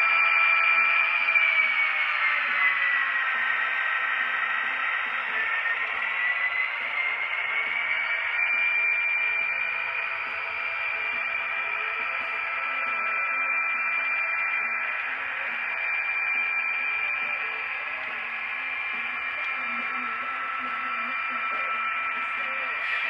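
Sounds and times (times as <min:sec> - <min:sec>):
high thin whine: 0:03.3 - 0:23.0.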